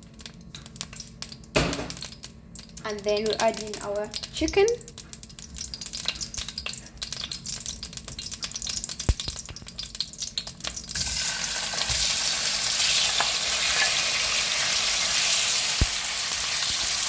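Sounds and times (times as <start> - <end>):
oil crackling in a frying pan: 0.0 - 17.0
chicken sizzling in oil: 0.6 - 17.0.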